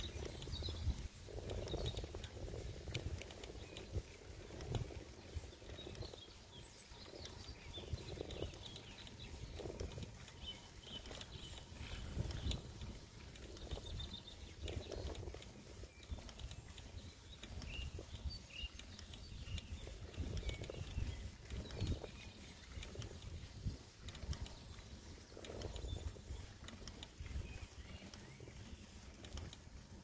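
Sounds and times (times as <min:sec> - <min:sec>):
bicycle riding rumble: 0:00.0 - 0:30.0
songbirds chirping: 0:00.0 - 0:30.0.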